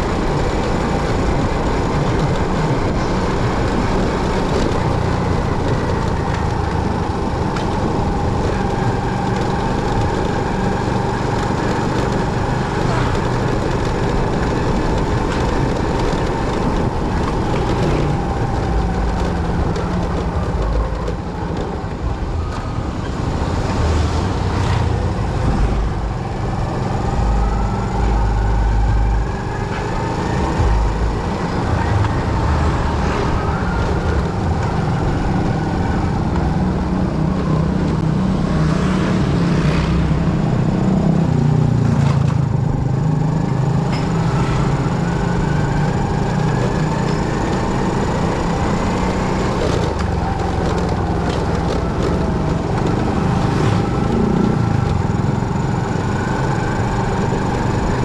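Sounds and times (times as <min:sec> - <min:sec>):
motorcycle engine running: 0:00.0 - 0:58.0
traffic: 0:00.0 - 0:58.0.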